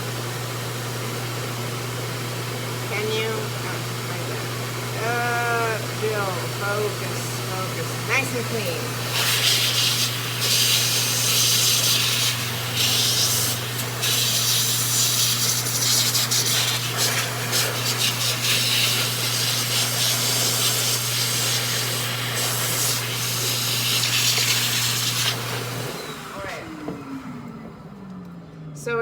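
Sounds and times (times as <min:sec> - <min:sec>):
air blower motor hum: 0:00.0 - 0:28.8.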